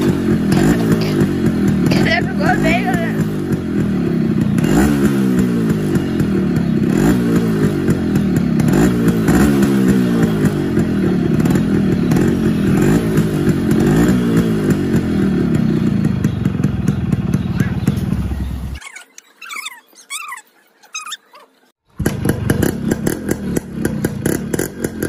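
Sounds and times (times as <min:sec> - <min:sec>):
two-stroke engine revving: 0:00.0 - 0:18.8, 0:21.9 - 0:25.0.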